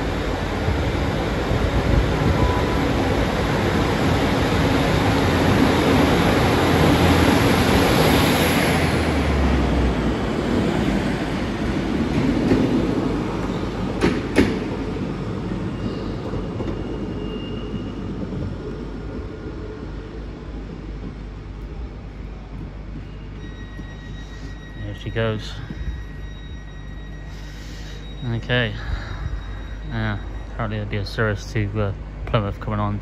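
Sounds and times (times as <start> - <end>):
diesel train passing: 0.0 - 33.0.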